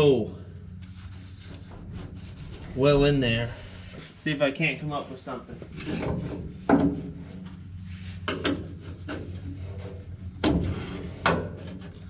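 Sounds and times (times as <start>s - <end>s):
steady low hum: 0.0s - 12.0s
rubbing and scraping: 0.8s - 12.0s.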